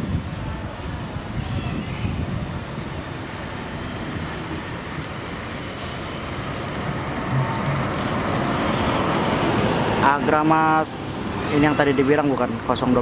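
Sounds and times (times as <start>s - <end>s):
bus driving past: 0.0s - 13.0s
traffic noise: 0.0s - 13.0s.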